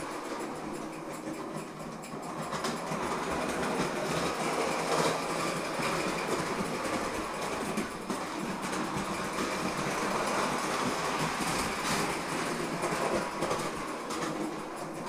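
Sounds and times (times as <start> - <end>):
toy train wheels rattling on metal rails: 0.0 - 15.0.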